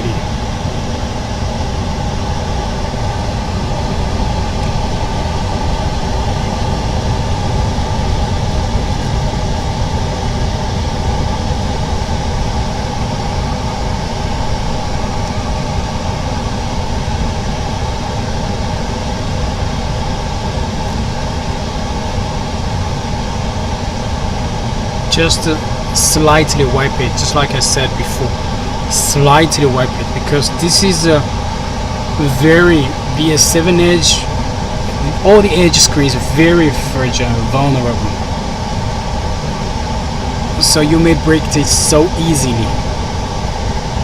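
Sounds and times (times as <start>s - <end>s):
low hum: 0.0s - 44.0s
machine running with rushing noise: 0.0s - 44.0s.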